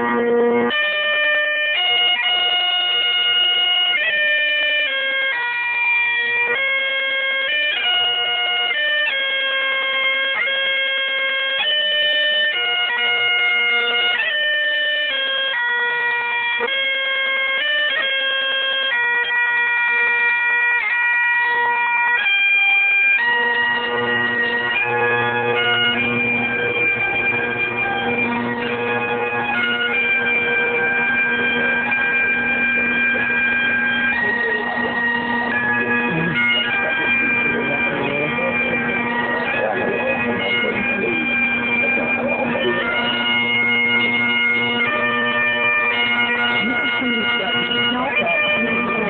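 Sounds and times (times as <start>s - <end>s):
bagpipes playing slow melody: 0.0s - 49.0s.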